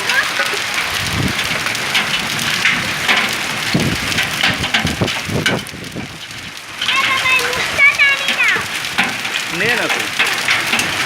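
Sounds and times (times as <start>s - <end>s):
hailstones pelting down: 0.0s - 11.0s.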